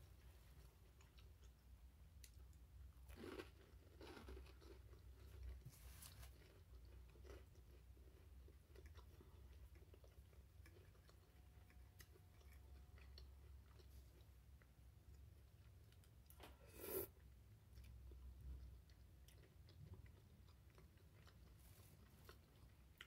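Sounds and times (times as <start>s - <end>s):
chewing and crunching food: 0.0s - 23.0s.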